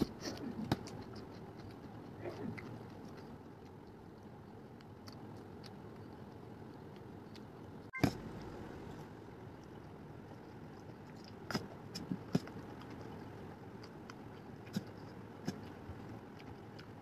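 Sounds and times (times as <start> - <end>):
quiet chewing of noodles: 0.0 - 17.0.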